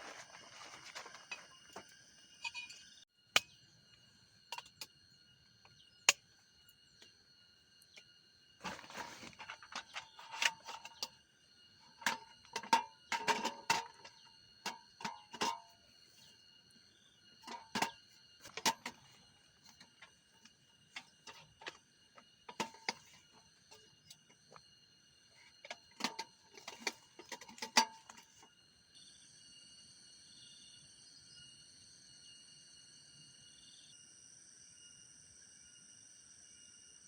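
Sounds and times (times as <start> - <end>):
night insects chirring: 0.0 - 37.0.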